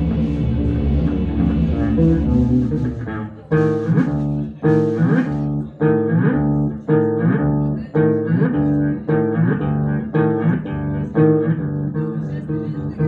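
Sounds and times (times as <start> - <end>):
experimental synthesizer and bass music: 0.0 - 13.0.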